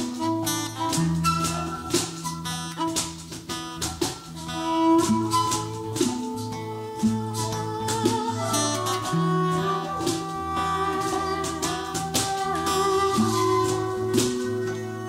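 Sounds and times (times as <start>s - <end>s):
looped violin music: 0.0s - 15.0s.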